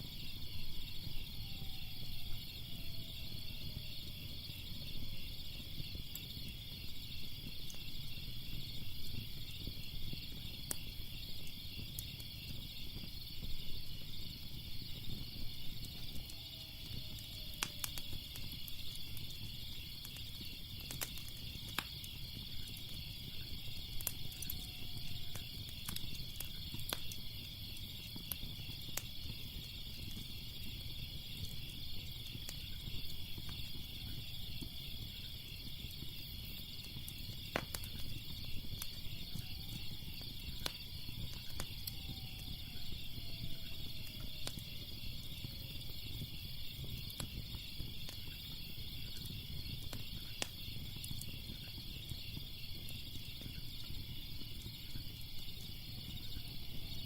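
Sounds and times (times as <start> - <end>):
crackling fire with pops: 0.0 - 57.0
crickets chirping: 0.0 - 57.0.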